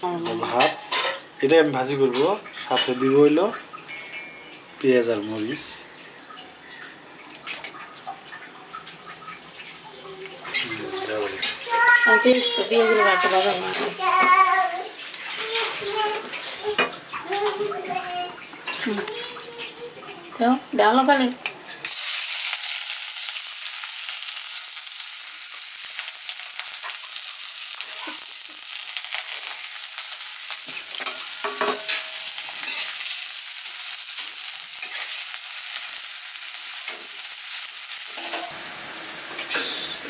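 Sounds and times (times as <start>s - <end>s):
onions sizzling in hot oil: 0.0s - 5.9s, 9.0s - 40.0s.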